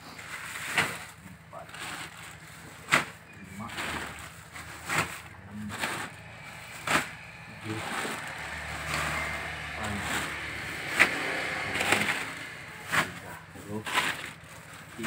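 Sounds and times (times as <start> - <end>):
plastic rustling and crinkling: 0.0 - 15.0
sharp plastic crackles: 0.1 - 15.0.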